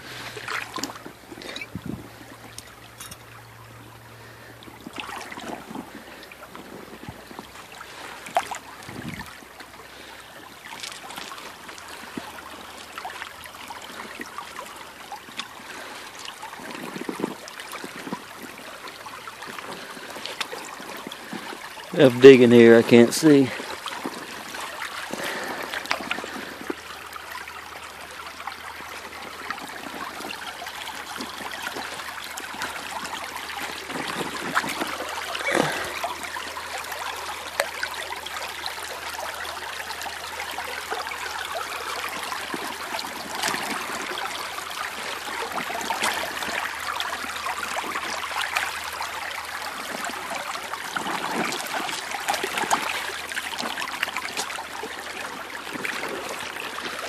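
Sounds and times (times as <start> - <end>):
creek trickling over gravel: 0.0 - 57.0
boot splashing through water: 4.2 - 22.0, 23.4 - 57.0.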